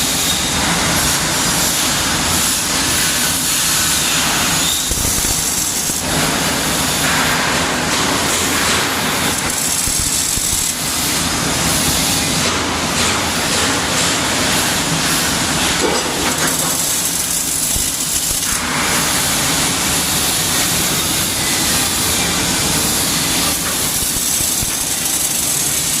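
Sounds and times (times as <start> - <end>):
welding arc hissing and crackling: 0.0 - 26.0.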